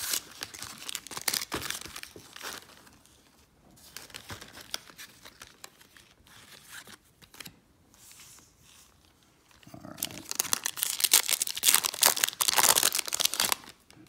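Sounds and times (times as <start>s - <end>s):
cards and wrappers rustling: 0.0s - 14.0s.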